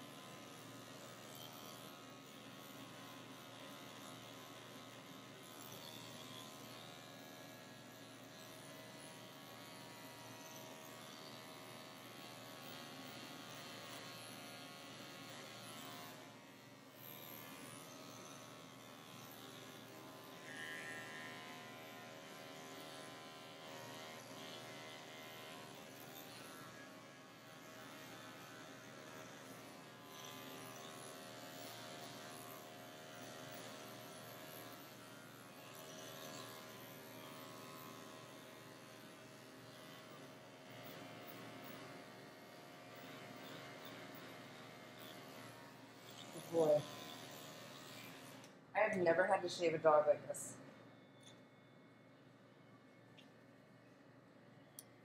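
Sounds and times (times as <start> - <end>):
dog clipper buzzing: 0.0 - 50.2.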